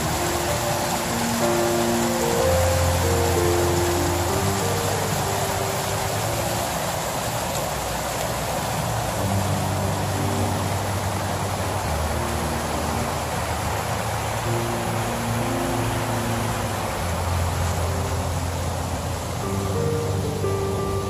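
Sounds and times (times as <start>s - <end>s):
low background music: 0.0s - 7.4s, 8.7s - 21.0s
stream cascading over rocks: 0.0s - 21.0s.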